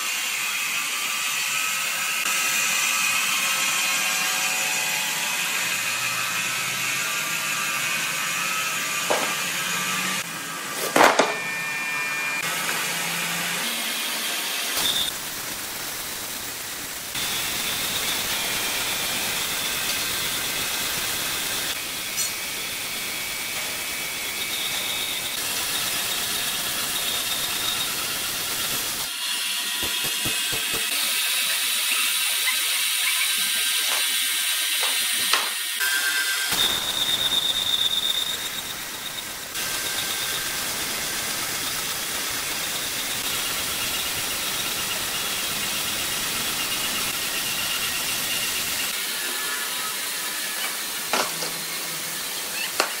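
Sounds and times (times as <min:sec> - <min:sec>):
band saw cutting log: 0:00.0 - 0:53.0.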